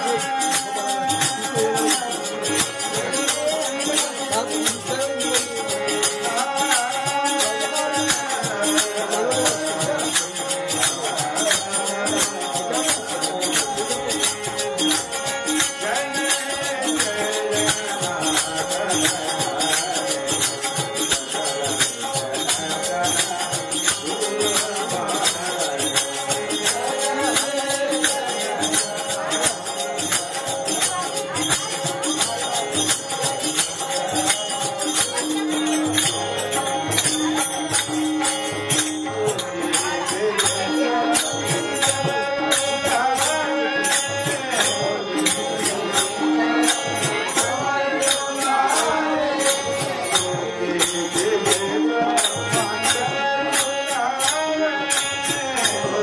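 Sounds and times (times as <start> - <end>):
harmonium chords: 0.0 - 56.0
men singing: 0.0 - 56.0.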